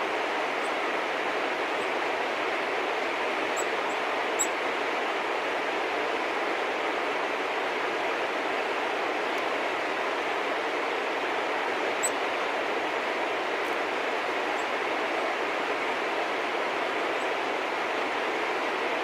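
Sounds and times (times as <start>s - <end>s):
steady outdoor rushing noise: 0.0s - 19.0s.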